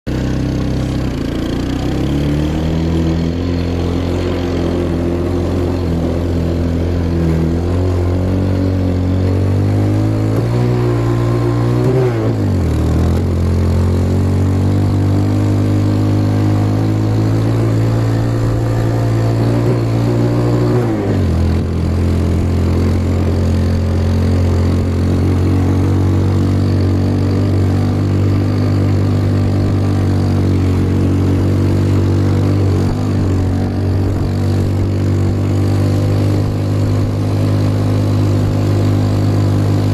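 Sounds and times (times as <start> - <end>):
quad bike engine running: 0.1 - 39.9.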